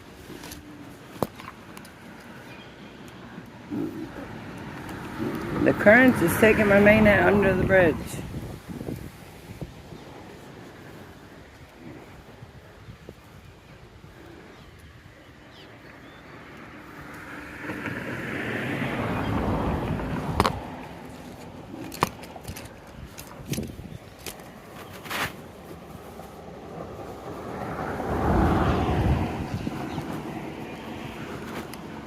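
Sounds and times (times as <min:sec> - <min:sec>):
vehicles passing on bridge: 0:00.0 - 0:32.0.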